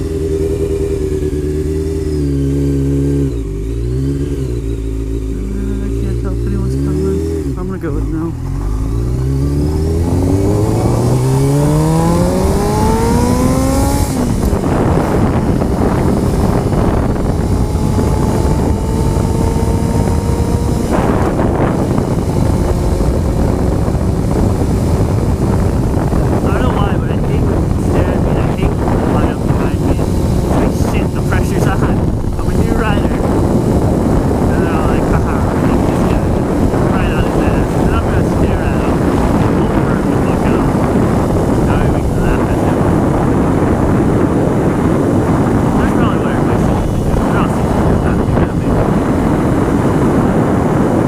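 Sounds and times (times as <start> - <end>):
motorcycle engine running: 0.0 - 51.0
wind buffeting on microphone: 0.0 - 51.0.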